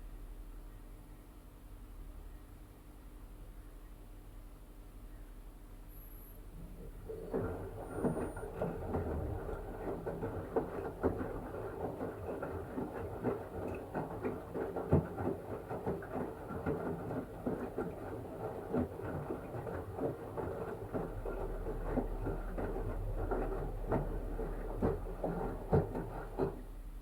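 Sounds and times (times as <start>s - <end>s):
washing machine hum: 5.3s - 27.0s.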